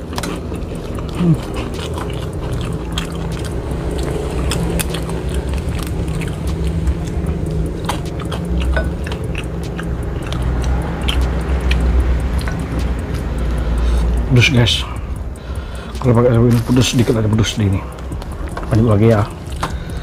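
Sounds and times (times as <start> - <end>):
man chewing food: 0.0 - 20.0
mouth clicks and food crackles: 0.0 - 20.0
steady low hum: 0.0 - 20.0.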